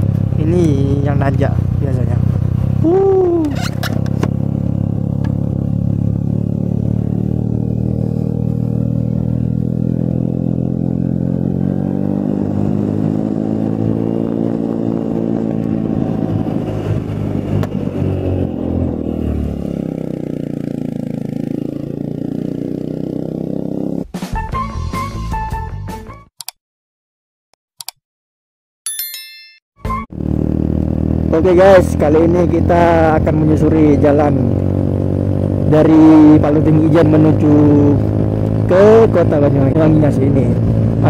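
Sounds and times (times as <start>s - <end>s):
motorcycle engine running: 0.0s - 24.1s, 30.1s - 41.0s.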